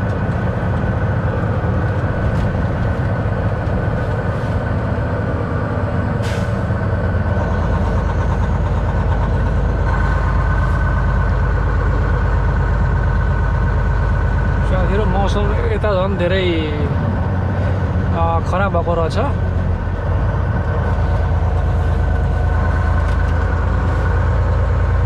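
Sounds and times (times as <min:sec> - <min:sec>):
diesel truck engine and road noise: 0:00.0 - 0:25.0.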